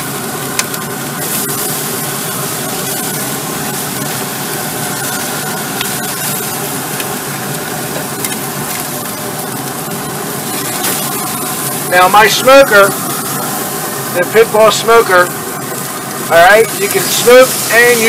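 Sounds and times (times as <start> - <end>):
meat sizzling on a grill: 0.0 - 18.0.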